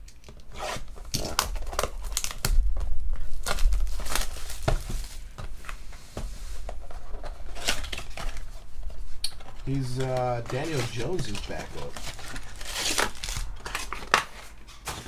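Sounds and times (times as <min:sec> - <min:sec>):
card packs crinkling: 0:00.2 - 0:05.9, 0:06.7 - 0:15.0.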